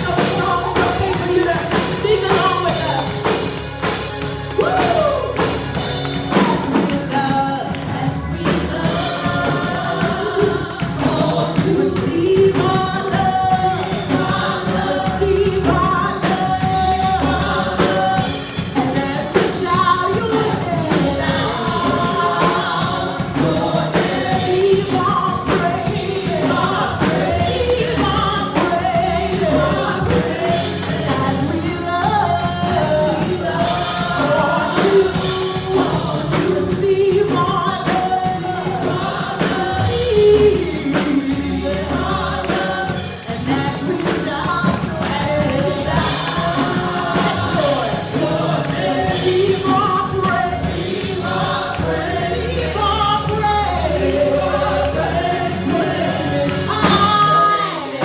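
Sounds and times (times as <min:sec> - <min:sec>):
bass: 0:00.0 - 0:58.0
gospel choir singing: 0:00.0 - 0:58.0
live band accompaniment: 0:00.0 - 0:58.0
percussion beat: 0:00.0 - 0:58.0.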